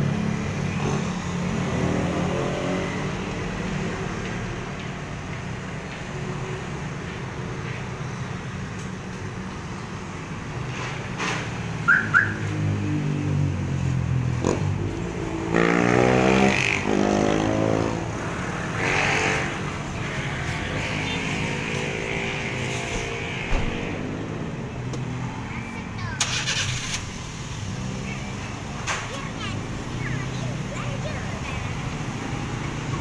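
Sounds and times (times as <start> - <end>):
motorcycle and car engines passing: 0.0 - 33.0.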